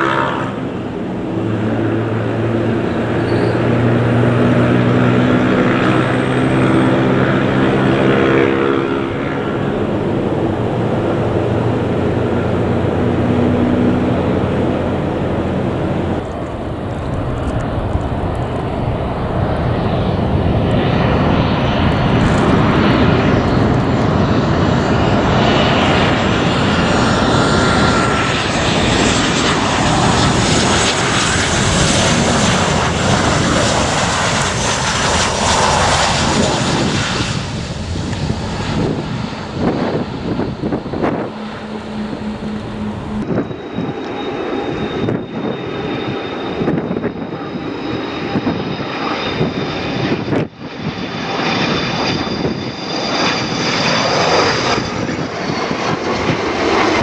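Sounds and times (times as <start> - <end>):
jet engines humming: 0.0 - 57.0
jet engines rushing on approach: 0.0 - 57.0.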